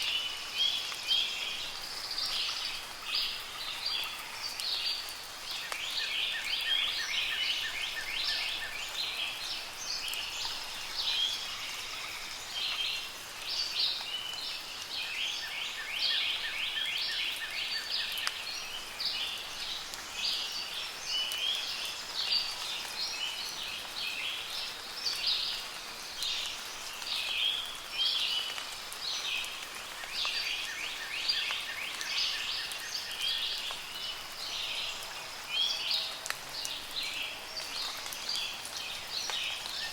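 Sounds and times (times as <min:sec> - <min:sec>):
rain pattering: 0:00.0 - 0:39.9
songbirds singing and chirping: 0:00.0 - 0:39.9.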